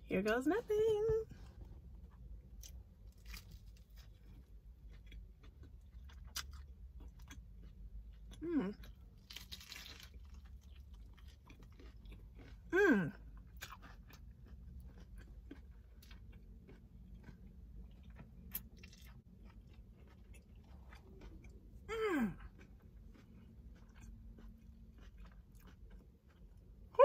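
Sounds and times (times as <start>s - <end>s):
person chewing food: 1.3s - 27.0s.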